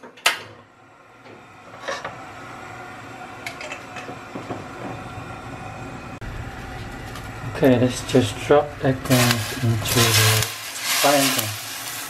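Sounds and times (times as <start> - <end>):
gas flame rushing: 1.0 - 12.0.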